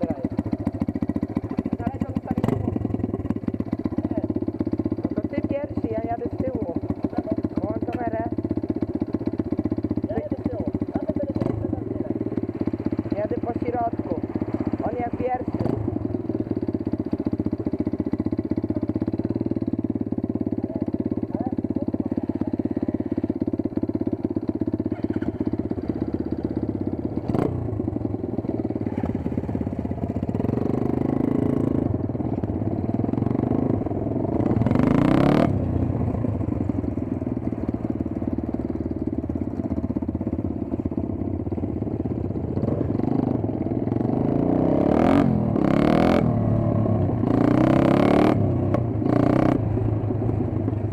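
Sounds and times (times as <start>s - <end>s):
dirt bike engines revving: 0.0s - 37.7s, 41.9s - 50.9s.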